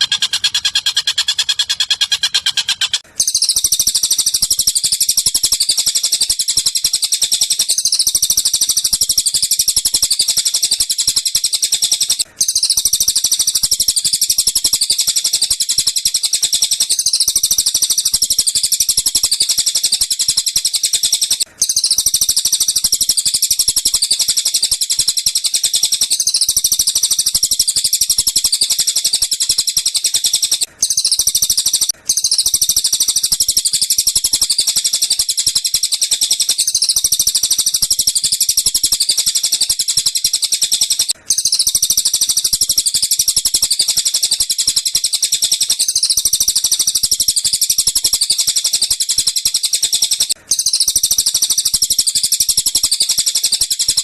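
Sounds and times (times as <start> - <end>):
rapid chirping bird trill: 0.0 - 54.0.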